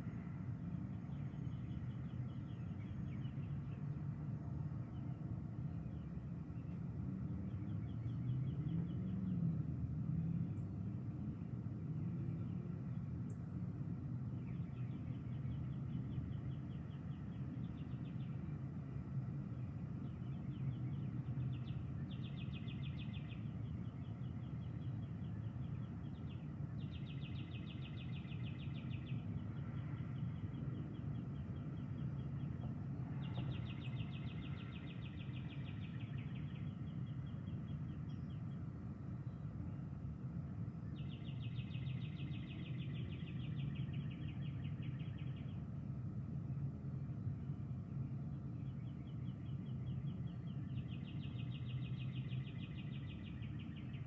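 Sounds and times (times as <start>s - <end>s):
low outdoor background noise: 0.0s - 54.0s.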